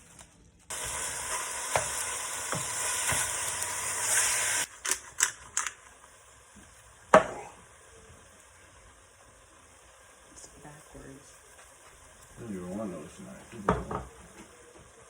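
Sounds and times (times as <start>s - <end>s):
food sizzling in a frying pan: 0.7s - 15.0s.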